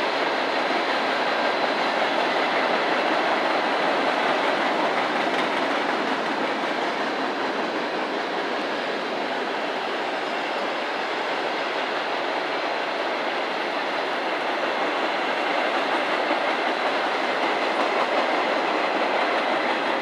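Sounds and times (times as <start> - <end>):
train cars rolling on rails: 0.0 - 20.0
train wheel clatter: 0.0 - 20.0.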